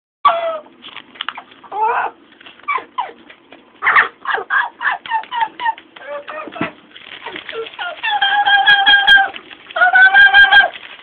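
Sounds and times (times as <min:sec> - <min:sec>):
parrot squawking and chattering: 0:01.4 - 0:10.7.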